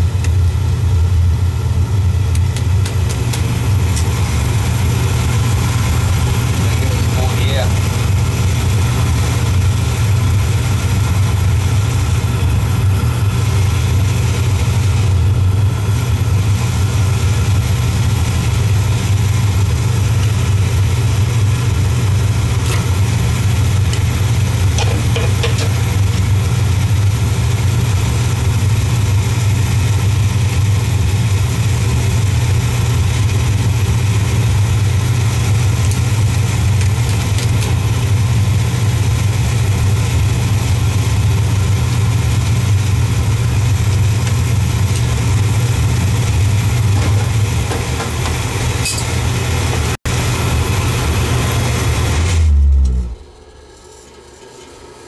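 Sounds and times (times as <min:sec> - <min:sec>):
oil burner humming: 0:00.0 - 0:55.0.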